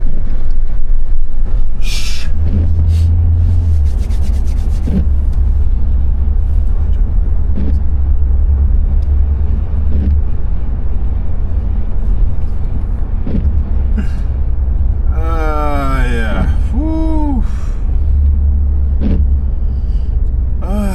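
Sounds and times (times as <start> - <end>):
road and engine rumble: 0.0 - 20.9.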